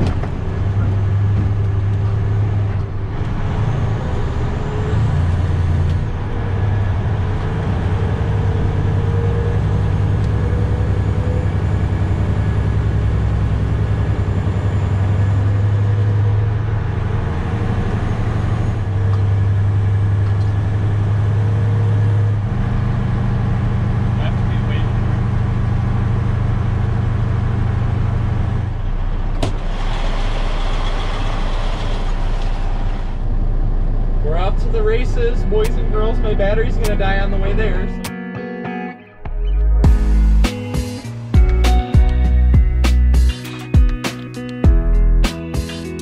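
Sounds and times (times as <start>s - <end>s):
truck diesel engine drone: 0.0s - 38.2s, 39.1s - 46.0s.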